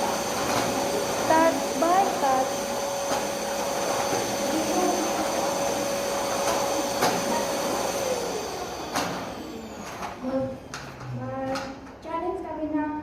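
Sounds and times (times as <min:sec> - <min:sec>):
vacuum cleaner motor whining: 0:00.0 - 0:11.1.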